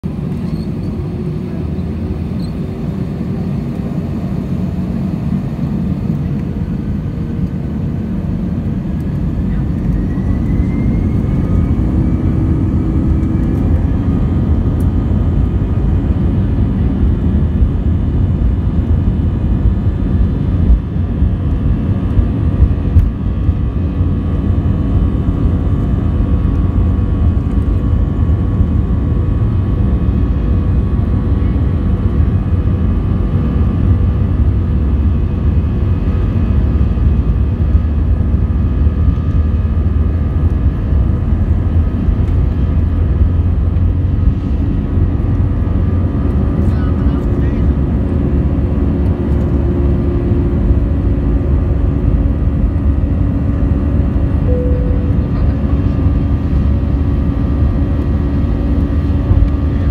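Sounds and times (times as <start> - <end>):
jet engines rumbling with whine: 0.0 - 59.9.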